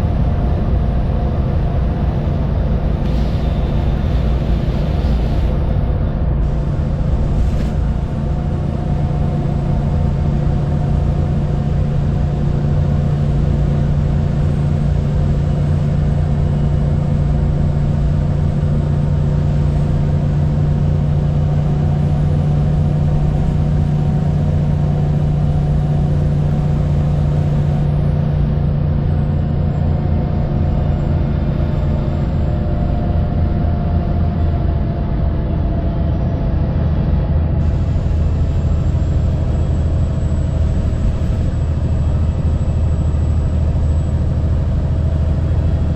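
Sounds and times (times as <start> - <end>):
bus engine drone: 0.0 - 45.9
road rumble: 0.0 - 45.9.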